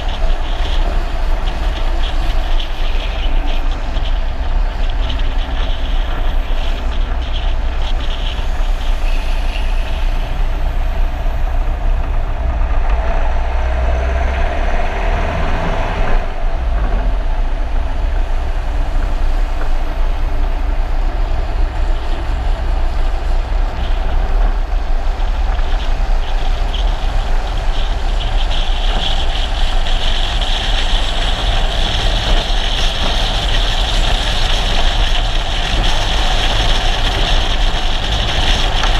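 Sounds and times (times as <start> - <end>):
car road noise at speed: 0.0 - 38.9
constant low rumble: 0.0 - 38.9
wind on microphone: 0.0 - 38.9.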